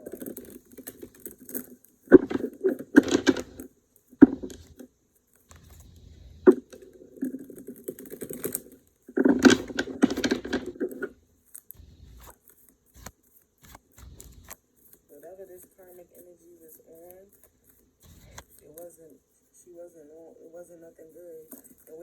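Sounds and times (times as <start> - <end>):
cards tapping: 0.0 - 16.3, 16.9 - 18.9
cards being shuffled: 0.0 - 19.0.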